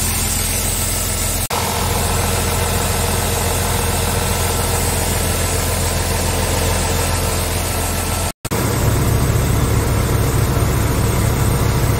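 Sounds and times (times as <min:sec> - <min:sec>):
diesel truck engine idling: 0:00.0 - 0:11.9.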